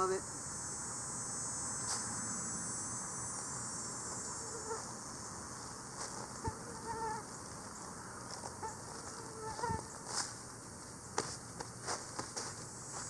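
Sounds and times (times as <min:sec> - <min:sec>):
fly whining around microphone: 0:00.0 - 0:13.0
high insect hiss: 0:00.0 - 0:13.0
insects buzzing: 0:00.0 - 0:13.0.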